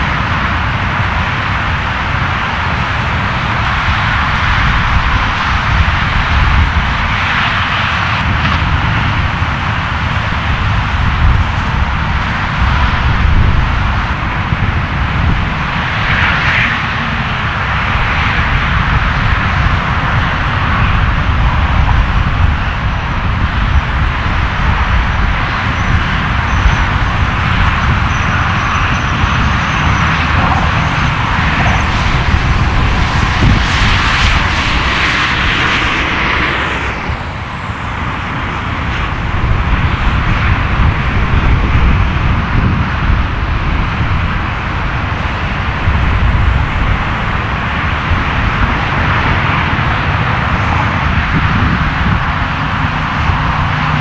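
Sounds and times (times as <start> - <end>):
jet plane landing rumble: 0.0 - 54.0.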